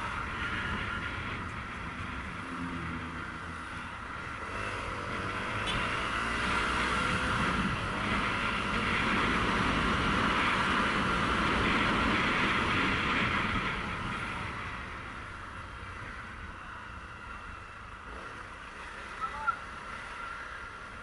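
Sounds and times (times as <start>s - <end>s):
wind rush on microphone: 0.0s - 5.9s, 6.6s - 19.1s.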